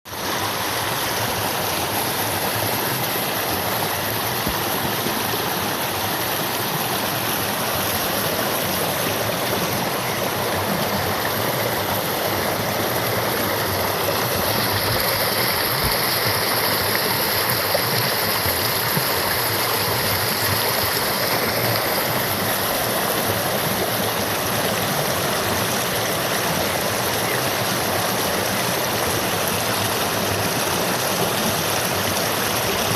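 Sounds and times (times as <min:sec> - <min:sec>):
river water rushing: 0:00.1 - 0:32.9.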